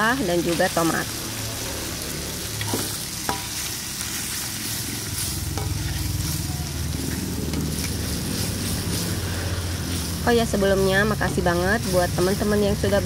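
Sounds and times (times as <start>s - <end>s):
chili paste sizzling in wok: 0.0s - 13.0s.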